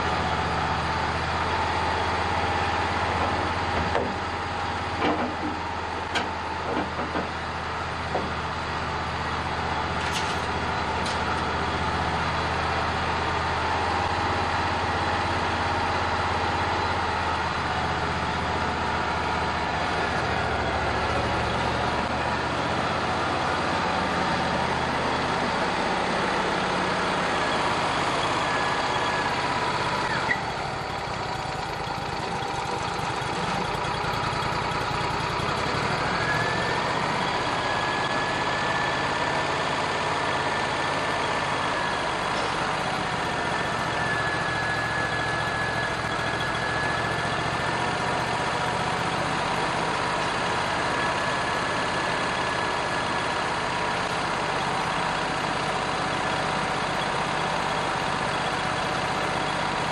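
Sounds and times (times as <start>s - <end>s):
sawmill engine droning: 0.0s - 59.9s.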